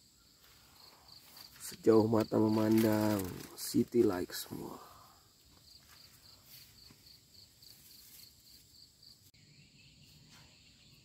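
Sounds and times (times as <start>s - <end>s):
faint cricket chirping: 0.0s - 11.0s.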